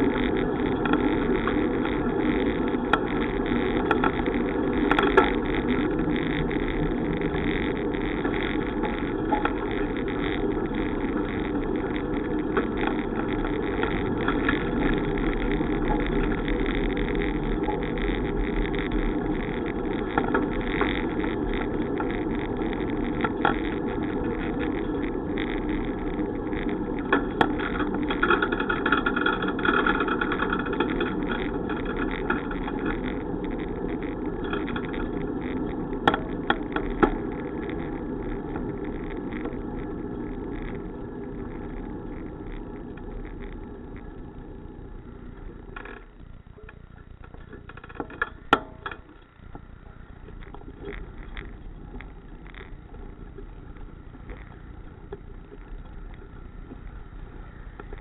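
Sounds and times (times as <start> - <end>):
bicycle tyre noise: 0.0 - 58.0
wind rumble: 0.0 - 58.0.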